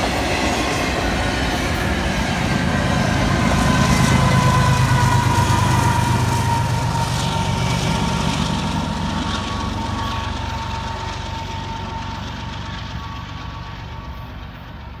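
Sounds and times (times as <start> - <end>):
diesel locomotive engine rumble: 0.0 - 15.0
train wheels on track: 0.0 - 15.0.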